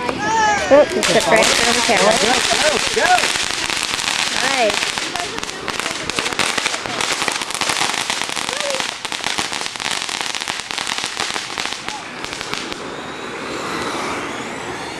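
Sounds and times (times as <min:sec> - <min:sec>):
fireworks crackling: 0:00.7 - 0:13.3
fireworks hissing spray: 0:00.9 - 0:14.8.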